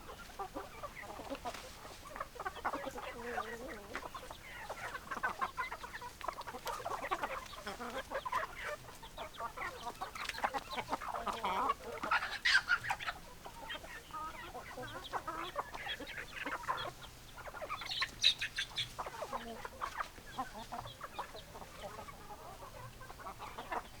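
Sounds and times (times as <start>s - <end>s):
hens clucking: 0.0s - 24.0s
loud high hen calls: 0.0s - 24.0s.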